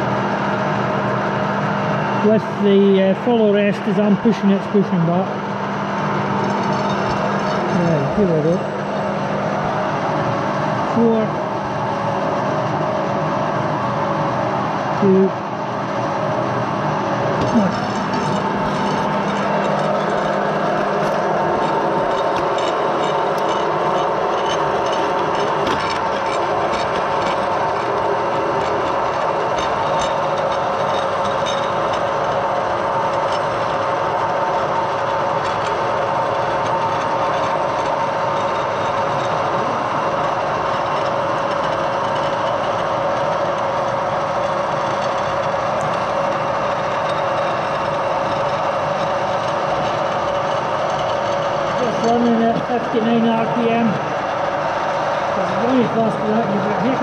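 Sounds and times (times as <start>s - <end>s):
metal lathe gear whine: 0.0s - 57.0s.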